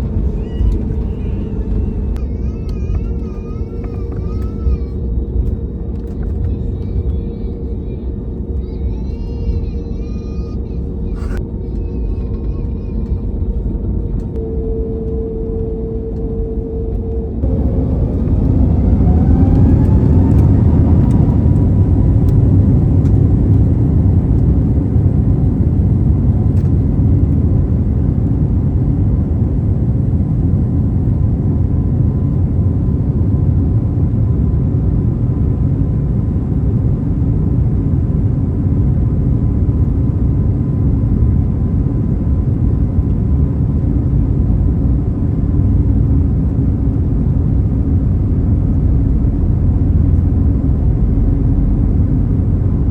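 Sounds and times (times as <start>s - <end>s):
jet engines rumbling from cabin: 0.0s - 52.9s.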